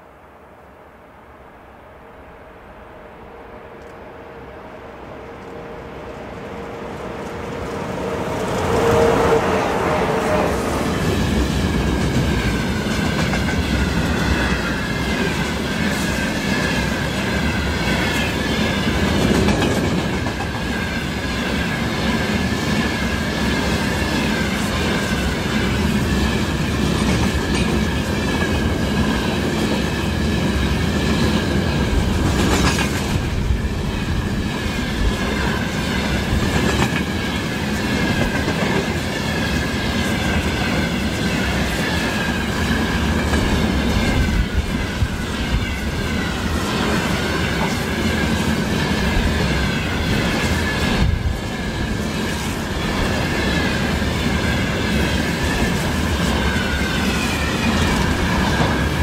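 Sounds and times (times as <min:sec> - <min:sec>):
train wheels clicking over rail joints: 0:10.9 - 0:59.0.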